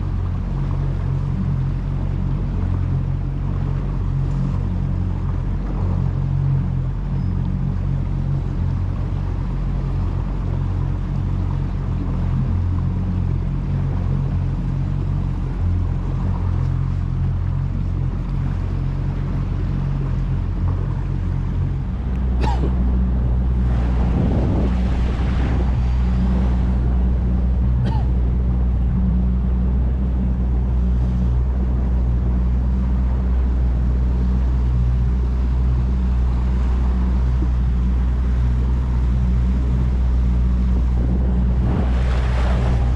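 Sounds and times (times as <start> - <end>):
motorboat engine humming: 0.0 - 42.9.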